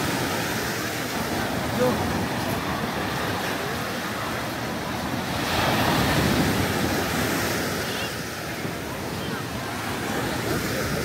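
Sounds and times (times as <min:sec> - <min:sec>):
sea waves breaking on beach: 0:00.0 - 0:11.0.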